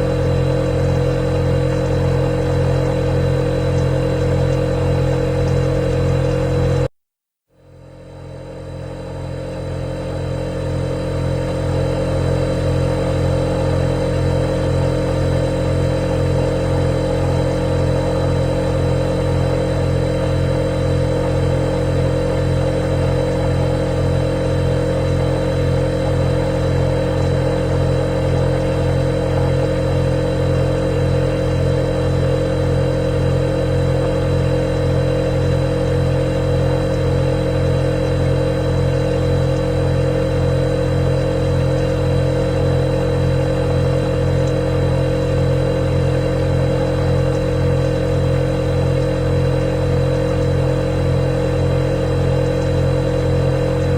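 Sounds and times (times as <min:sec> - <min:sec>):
refrigerator humming: 0:00.0 - 0:07.0, 0:07.6 - 0:53.9.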